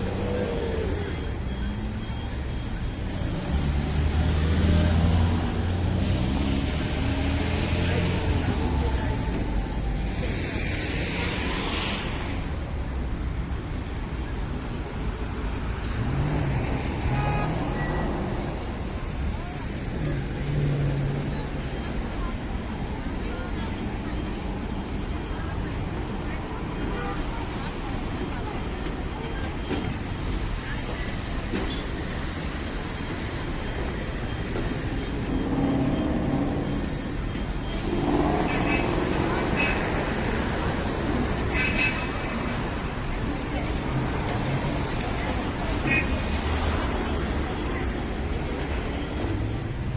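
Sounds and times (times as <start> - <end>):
low rumble of traffic: 0.0 - 49.9.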